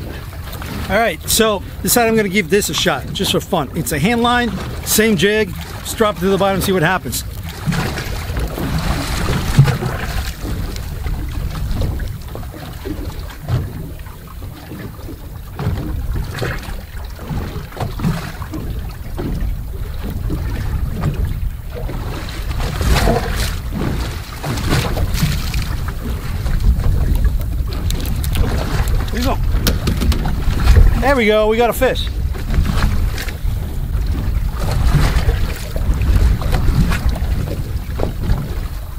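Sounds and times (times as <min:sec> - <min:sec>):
waves lapping against boat hull: 0:00.0 - 0:38.9
wind rumbling on microphone: 0:00.0 - 0:38.9.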